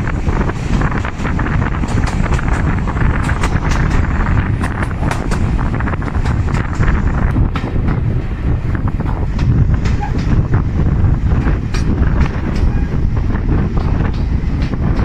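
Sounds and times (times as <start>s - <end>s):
train rumbling on track: 0.0s - 15.0s
wheels clicking on rails: 0.0s - 15.0s
wind buffeting microphone: 0.0s - 15.0s.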